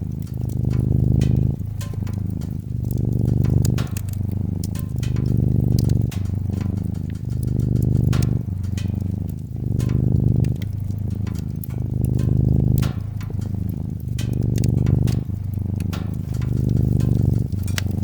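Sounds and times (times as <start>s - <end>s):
cat purring: 0.0s - 18.0s
wood fire crackling: 0.0s - 18.0s.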